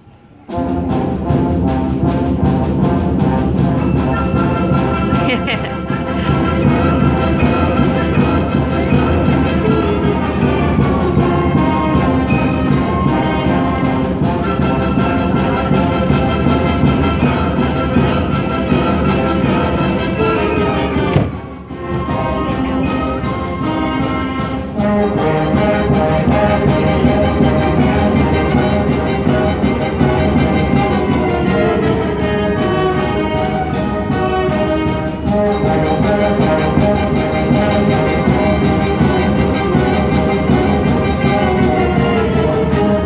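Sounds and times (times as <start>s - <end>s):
concert band playing: 0.3s - 43.0s.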